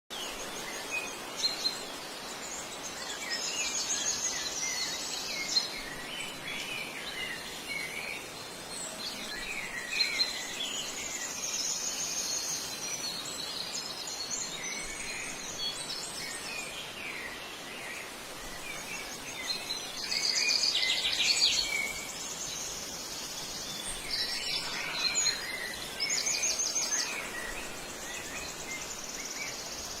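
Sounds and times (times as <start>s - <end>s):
steady outdoor hiss: 0.1s - 30.0s
wild birds chirping and singing: 0.1s - 30.0s.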